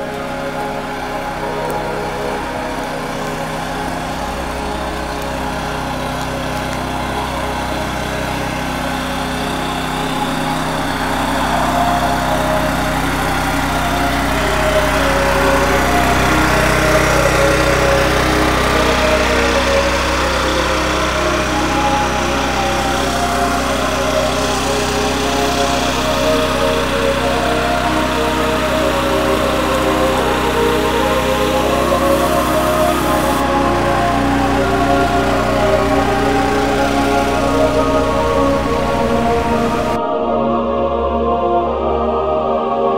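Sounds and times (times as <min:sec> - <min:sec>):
pressure washer engine running: 0:00.0 - 0:40.0.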